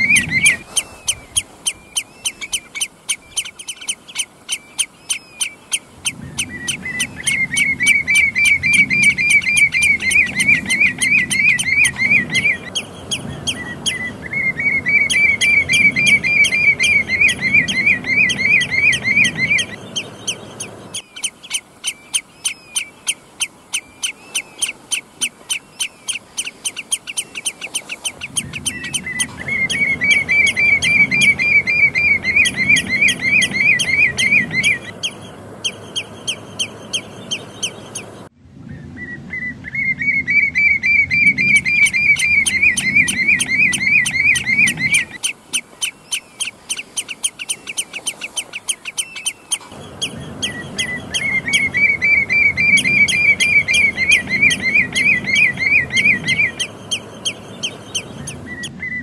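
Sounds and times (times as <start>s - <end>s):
bird piping notes: 0.0s - 38.3s, 39.0s - 59.0s
rolling yodelling bird song: 0.0s - 59.0s.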